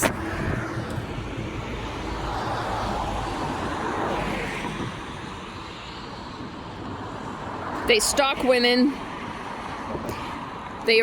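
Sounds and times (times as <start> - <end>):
passing car: 0.0 - 11.0.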